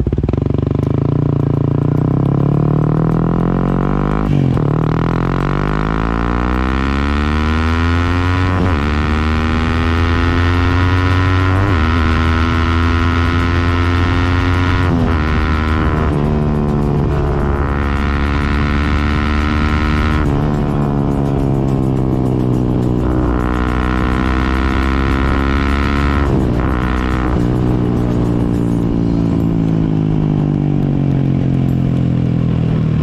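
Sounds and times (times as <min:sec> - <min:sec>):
motorcycle engine revving up: 0:00.0 - 0:31.9.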